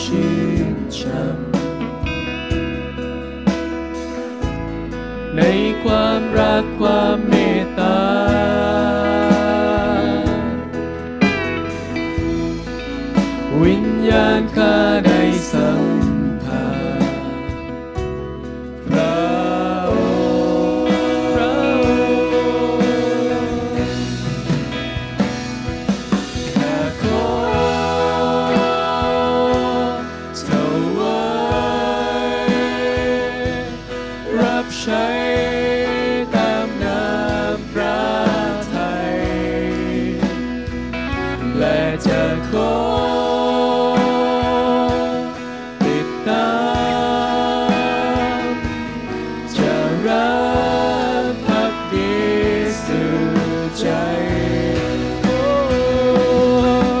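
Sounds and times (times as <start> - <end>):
acoustic and electric guitars: 0.0 - 57.0
people singing worship song: 0.0 - 57.0.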